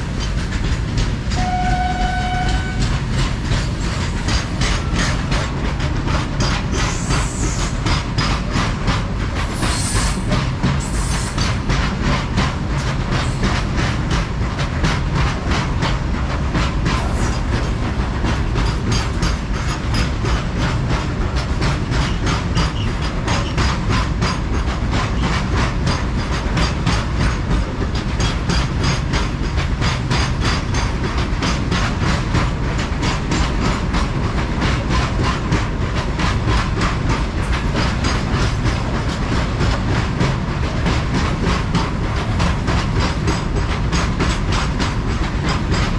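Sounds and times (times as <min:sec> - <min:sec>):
train wheels clattering: 0:00.0 - 0:45.9.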